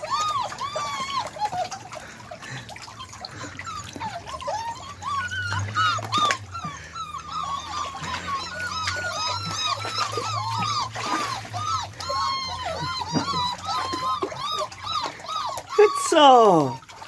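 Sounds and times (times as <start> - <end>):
puppies whimpering and yipping: 0.0 - 17.0.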